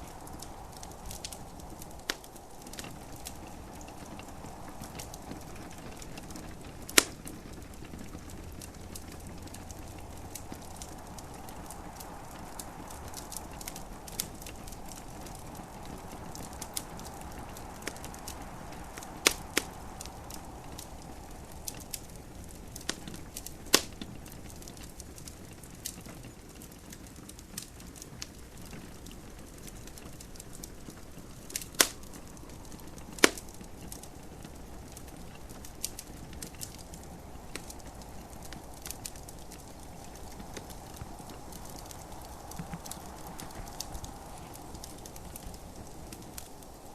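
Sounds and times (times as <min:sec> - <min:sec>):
gentle rain hiss: 0:00.0 - 0:46.9
wood fire crackling and popping: 0:00.0 - 0:46.9.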